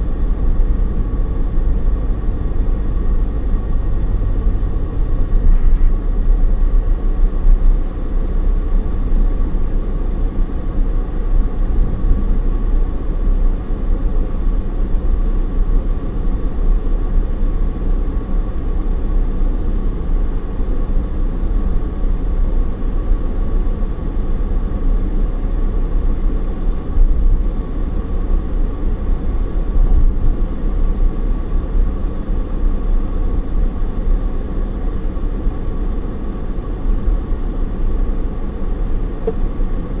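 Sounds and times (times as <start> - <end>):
car interior road rumble: 0.0 - 40.0.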